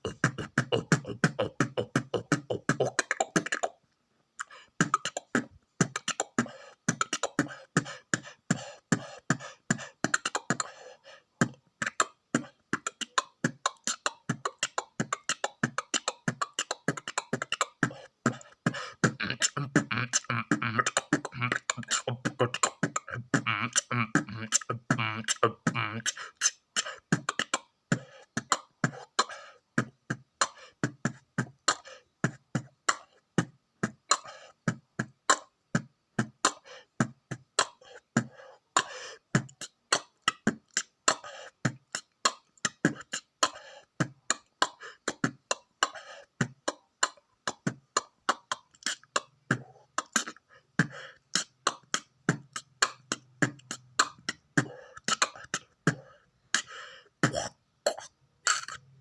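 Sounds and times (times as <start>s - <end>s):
beatboxing: 0.0s - 3.8s, 4.4s - 59.0s.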